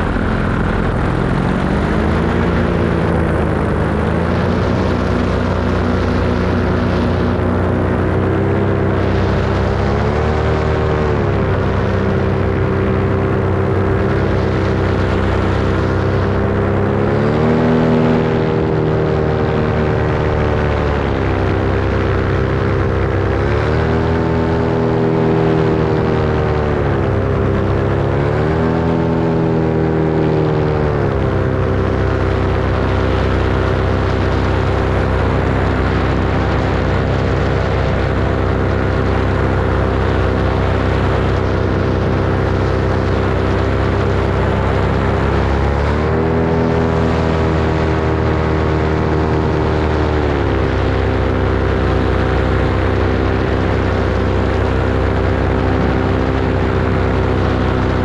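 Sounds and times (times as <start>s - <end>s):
small aircraft engine: 0.0s - 58.0s.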